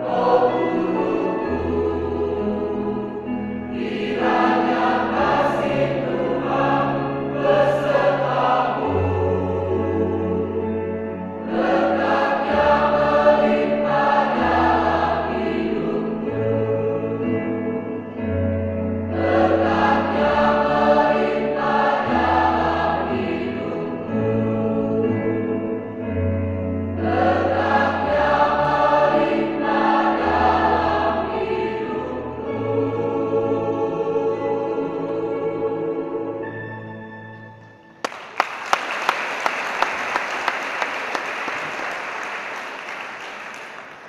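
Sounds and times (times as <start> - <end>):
choir singing in harmony: 0.0 - 37.8.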